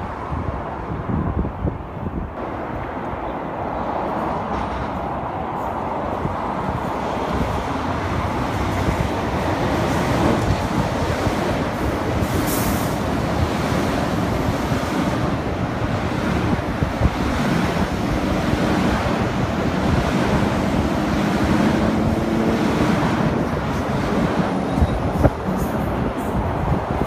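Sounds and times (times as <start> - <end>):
train wheels rumbling on rails: 2.4 - 27.0.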